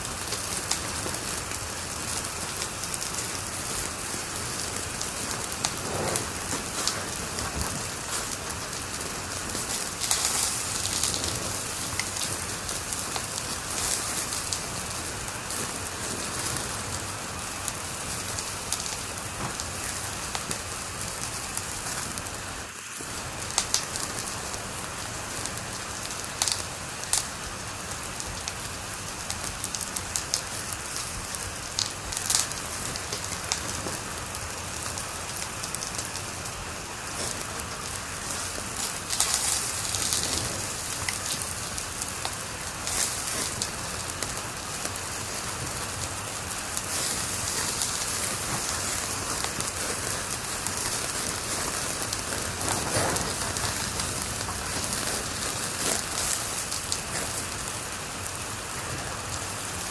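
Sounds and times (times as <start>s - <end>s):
fire popping: 0.0s - 59.9s
wood fire hissing: 0.0s - 59.9s.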